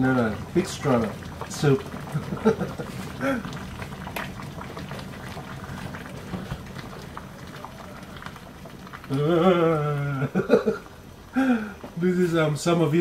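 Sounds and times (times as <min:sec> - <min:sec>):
water bubbling in a stockpot: 0:00.0 - 0:12.0.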